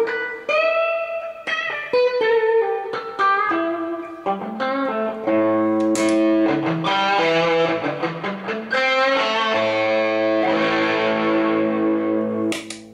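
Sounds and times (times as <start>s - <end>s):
electric guitar chords ringing: 0.0s - 12.9s.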